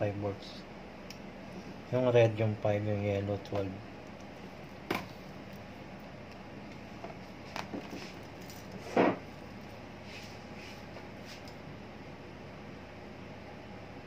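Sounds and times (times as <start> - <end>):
electronics and fan humming: 0.0 - 14.0.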